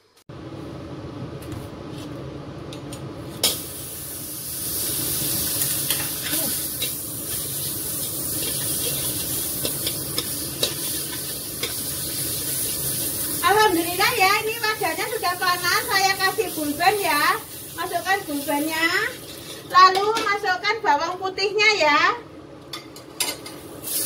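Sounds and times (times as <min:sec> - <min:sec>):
margarine sizzling in a wok: 0:03.4 - 0:21.6, 0:22.8 - 0:24.0.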